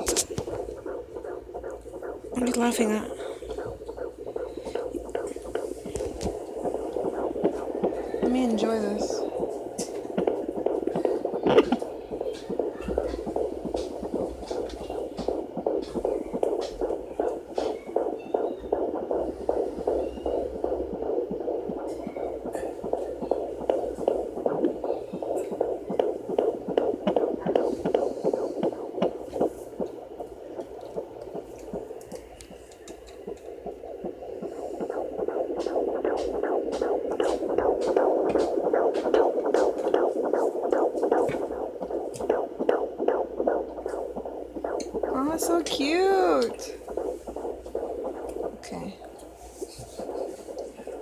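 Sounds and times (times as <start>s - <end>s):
fetal heartbeat pulses: 0.0s - 51.0s
steady hum: 0.0s - 51.0s.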